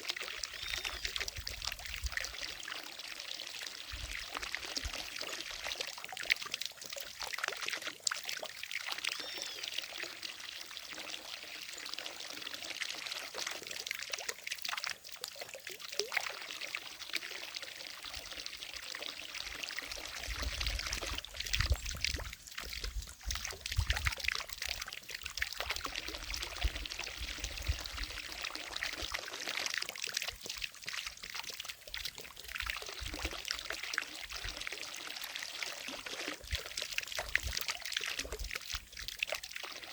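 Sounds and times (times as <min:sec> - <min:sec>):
fountain water splashing into lake: 0:00.0 - 0:39.9.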